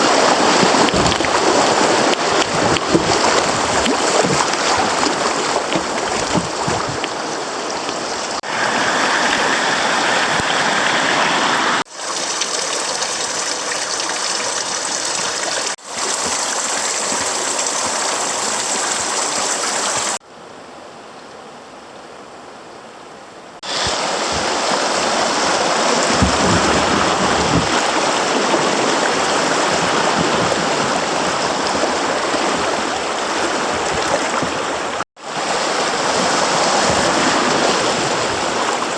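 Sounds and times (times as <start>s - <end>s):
creek water rushing: 0.0s - 20.2s, 23.6s - 38.9s.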